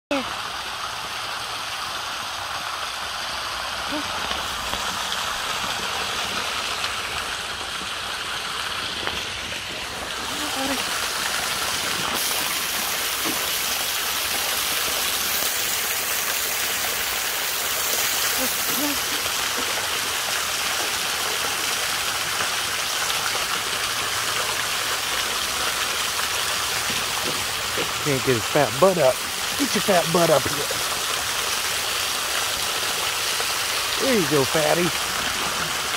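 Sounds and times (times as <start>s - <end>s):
stream splashing over rocks: 0.1s - 35.9s.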